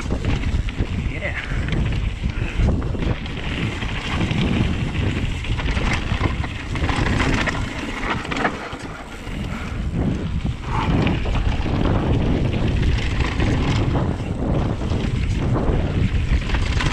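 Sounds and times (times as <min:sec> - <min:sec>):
bike knocks and rattles: 0:00.0 - 0:16.9
tyre rumble: 0:00.0 - 0:16.9
wind rushing over microphone: 0:00.0 - 0:16.9.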